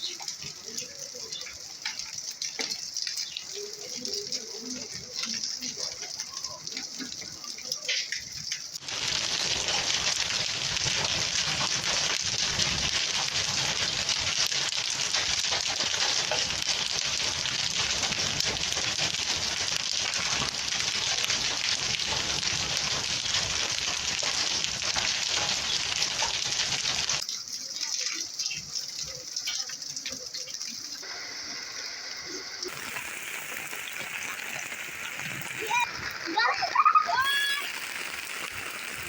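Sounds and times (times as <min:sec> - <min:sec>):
heavy rain and hail pelting: 0:00.0 - 0:39.0.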